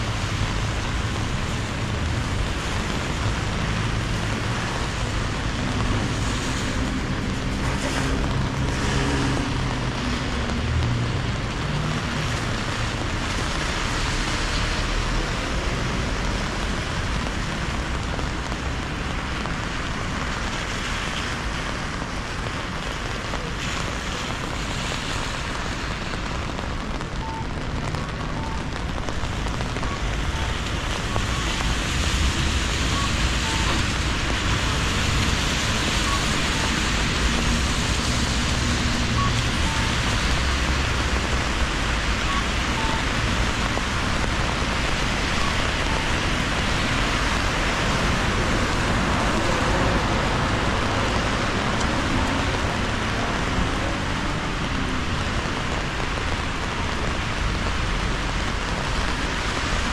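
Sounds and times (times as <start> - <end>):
steady rain: 0.0 - 59.9
tyres hissing on wet road: 0.0 - 59.9.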